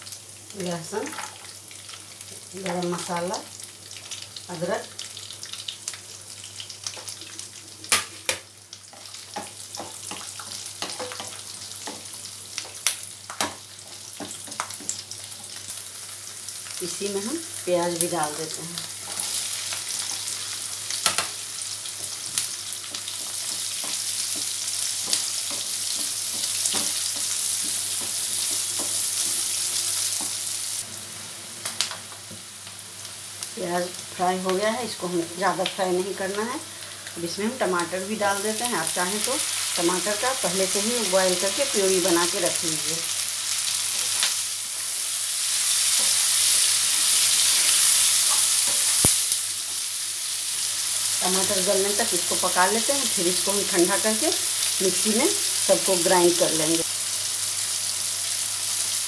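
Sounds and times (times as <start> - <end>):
onions sizzling in hot oil: 0.0 - 59.0.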